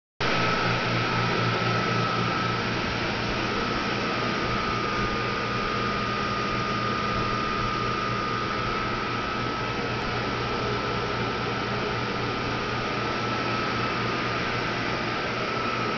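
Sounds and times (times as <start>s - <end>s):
drying blower rushing: 0.2s - 15.9s
thin steady whine: 0.2s - 15.9s.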